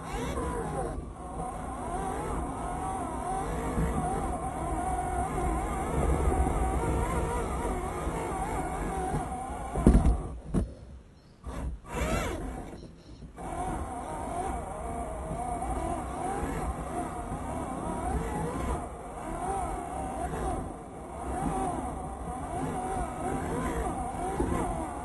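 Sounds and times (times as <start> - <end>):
toy car motor whine: 0.0 - 10.4, 11.4 - 25.0.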